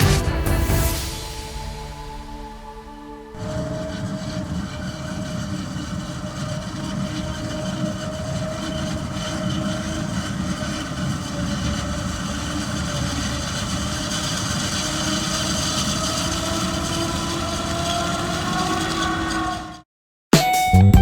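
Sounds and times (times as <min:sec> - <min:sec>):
diesel machinery rumble: 0:00.0 - 0:19.8
machinery whine: 0:00.0 - 0:19.8.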